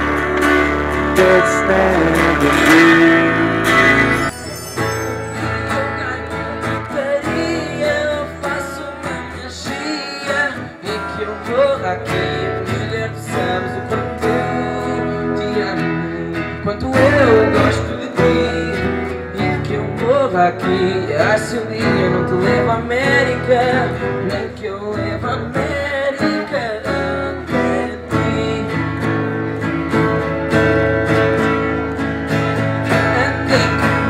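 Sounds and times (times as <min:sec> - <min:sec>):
acoustic guitars strumming: 0:00.0 - 0:34.0.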